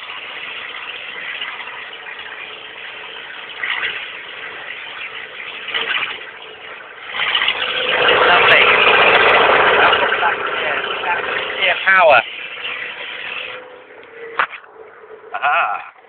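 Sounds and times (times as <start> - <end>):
car engine with open exhaust: 0.0 - 16.0.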